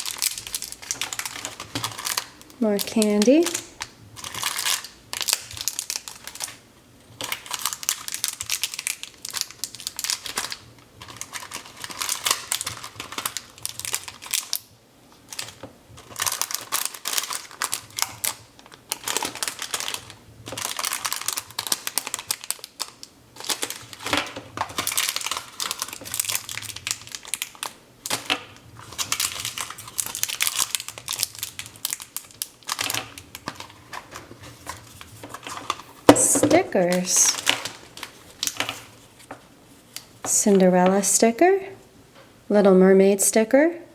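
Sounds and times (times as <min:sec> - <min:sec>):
plastic wrapping crinkling: 0:00.0 - 0:40.3.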